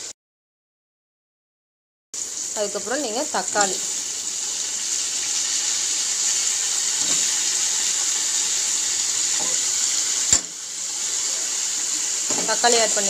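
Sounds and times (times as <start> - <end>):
vegetables sizzling in hot oil: 2.2 - 13.0.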